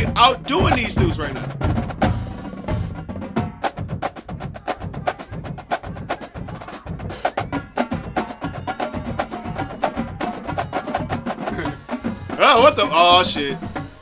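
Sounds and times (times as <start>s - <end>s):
marching drumline cadence: 0.0s - 14.0s.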